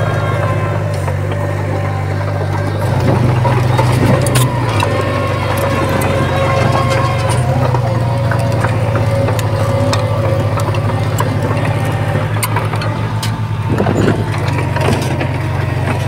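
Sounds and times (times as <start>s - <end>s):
diesel engine pulsing: 0.0s - 16.0s.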